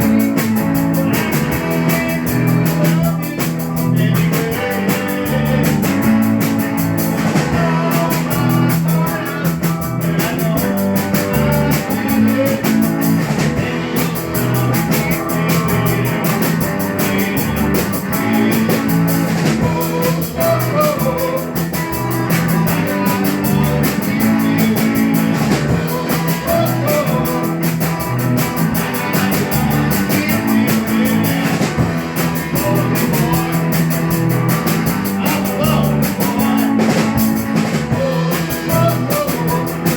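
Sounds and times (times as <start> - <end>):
bass: 0.0 - 39.9
drum kit: 0.0 - 39.9
electric guitars: 0.0 - 39.9
keyboard: 0.0 - 39.9.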